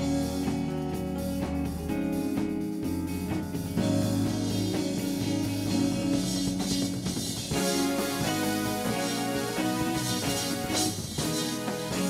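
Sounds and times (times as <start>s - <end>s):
live band instrumental music: 0.0s - 12.0s.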